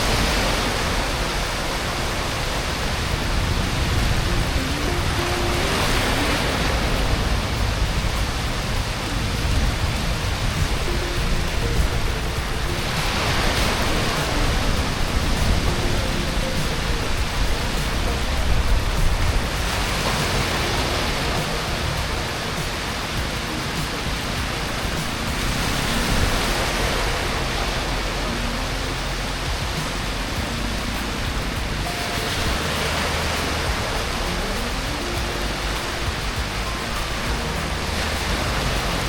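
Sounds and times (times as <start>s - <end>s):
steady rushing noise: 0.0s - 39.0s.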